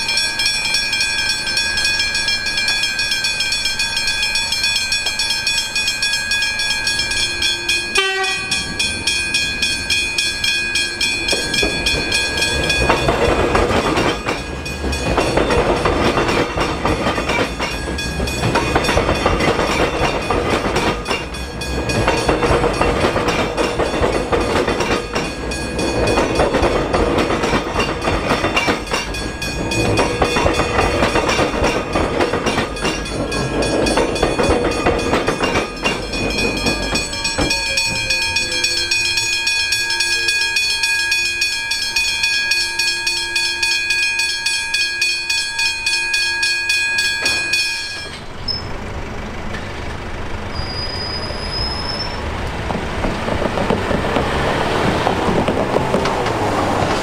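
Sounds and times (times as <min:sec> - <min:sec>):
electric train whine: 0:00.0 - 0:57.0
train wheels clattering on rails: 0:00.0 - 0:57.0.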